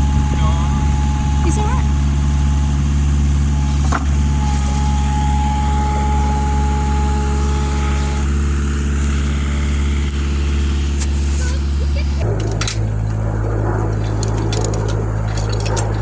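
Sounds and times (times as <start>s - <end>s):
engine idling: 0.0s - 16.0s
thin steady whine: 0.0s - 16.0s.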